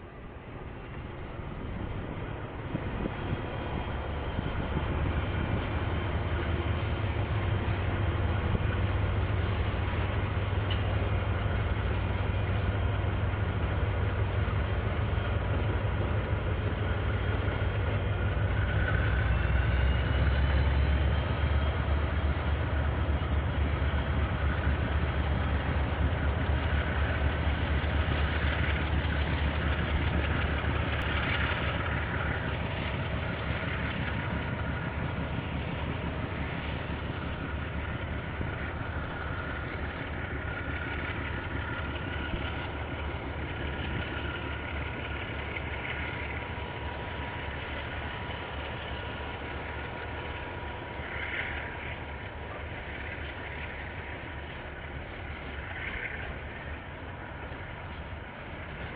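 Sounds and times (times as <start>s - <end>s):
diesel locomotive engine rumbling: 0.0s - 58.9s.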